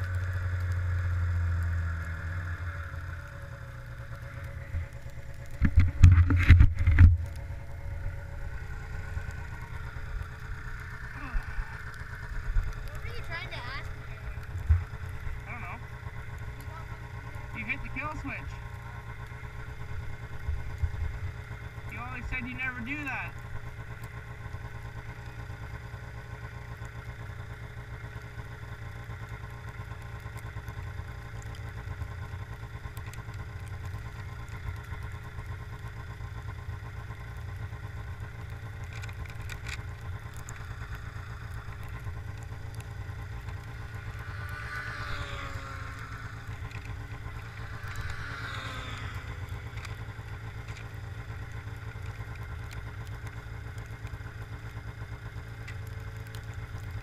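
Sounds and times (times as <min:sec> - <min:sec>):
snowmobile engine idling: 0:00.0 - 0:57.0.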